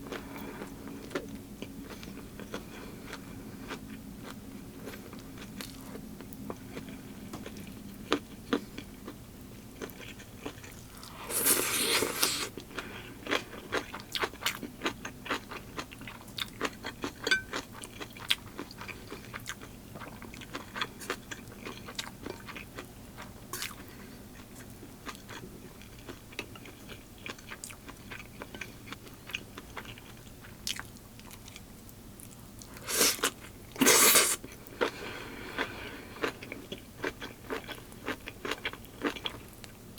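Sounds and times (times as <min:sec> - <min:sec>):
person chewing crunchy food: 0:00.0 - 0:39.8.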